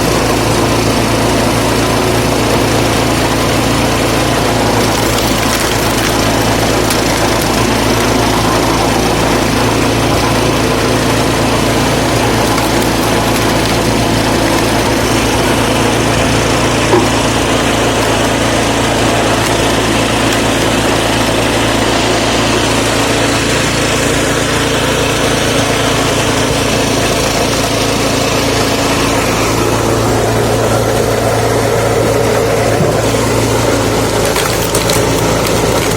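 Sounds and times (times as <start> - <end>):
petrol engine running: 0.0 - 35.9.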